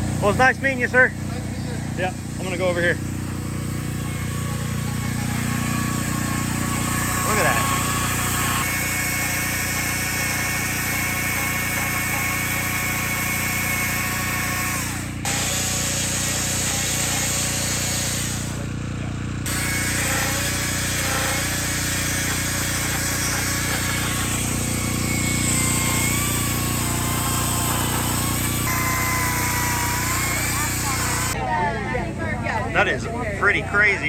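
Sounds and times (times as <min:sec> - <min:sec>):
chainsaw carving wood: 0:01.9 - 0:18.8, 0:19.4 - 0:31.4.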